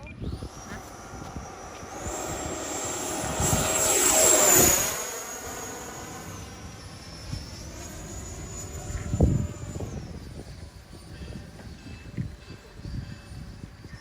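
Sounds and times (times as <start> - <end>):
model jet fan whine: 0.0 - 14.0
wind buffeting microphone: 0.0 - 14.0.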